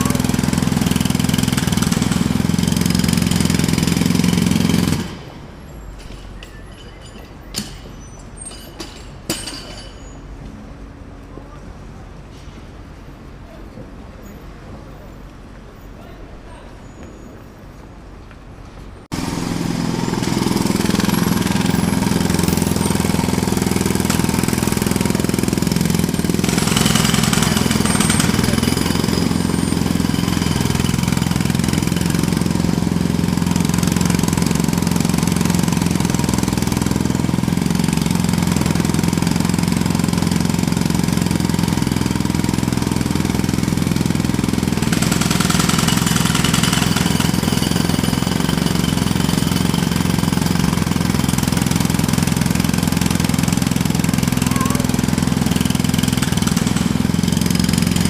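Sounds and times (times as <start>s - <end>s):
jackhammer hammering: 0.0s - 10.1s, 19.1s - 58.0s.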